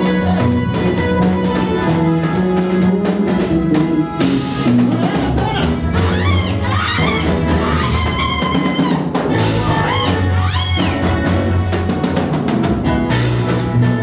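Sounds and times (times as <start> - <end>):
choir singing gospel: 0.0 - 11.7
bass guitar: 0.0 - 14.0
drum kit: 0.0 - 14.0.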